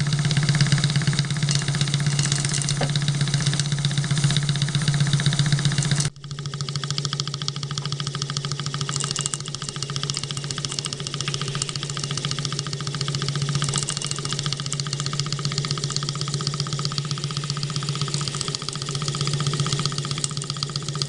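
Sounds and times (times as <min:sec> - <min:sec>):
model steam engine running: 0:00.0 - 0:21.0.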